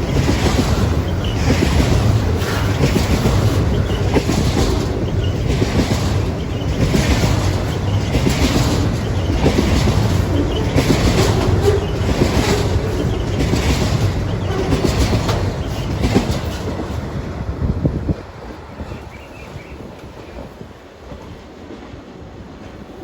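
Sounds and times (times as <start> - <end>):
freight train rumbling: 0.0 - 23.0
train wheels clattering on rails: 0.0 - 23.0.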